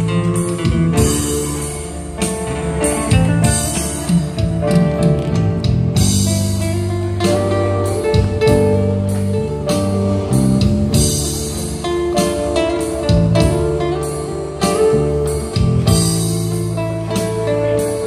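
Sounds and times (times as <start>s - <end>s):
live band playing pop ballad: 0.0s - 18.0s.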